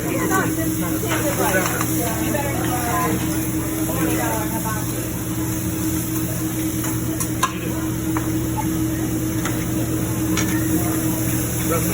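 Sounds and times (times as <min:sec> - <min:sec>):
constant hum: 0:00.0 - 0:11.9
griddle sizzling: 0:00.0 - 0:11.9.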